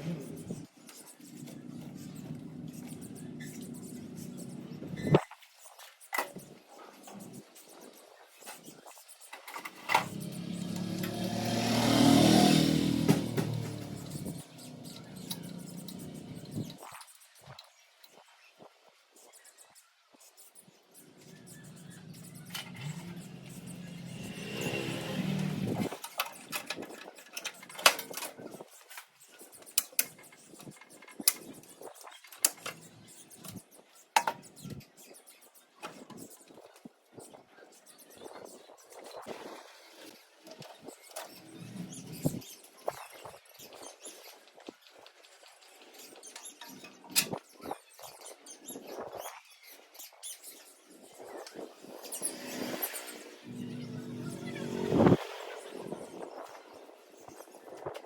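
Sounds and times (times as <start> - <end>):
scratching and rustling: 0.0 - 18.4, 19.1 - 58.0.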